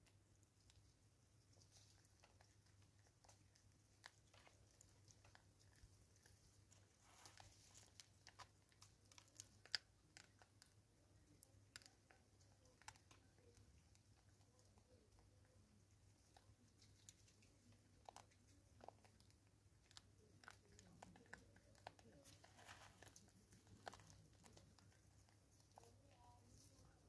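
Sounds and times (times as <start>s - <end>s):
monkey chewing seeds: 0.0s - 27.0s.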